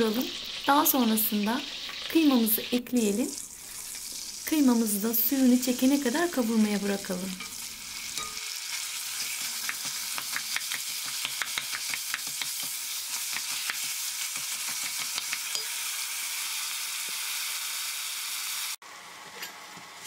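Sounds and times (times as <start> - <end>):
meat sizzling in a pot: 0.0 - 18.8.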